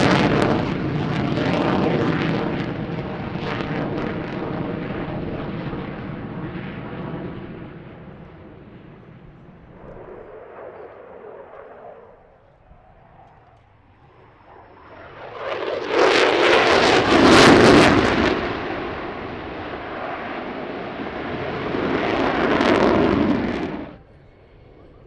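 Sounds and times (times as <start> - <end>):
aircraft flying past: 0.0 - 25.0.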